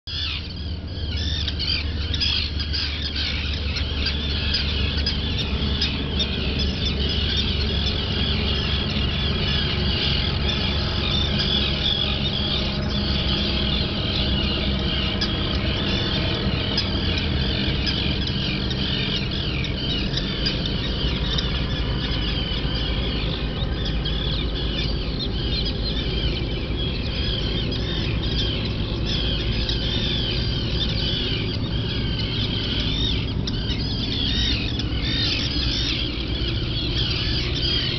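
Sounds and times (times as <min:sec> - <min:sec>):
steady low hum: 0:00.0 - 0:37.9
ducklings peeping: 0:00.1 - 0:37.9.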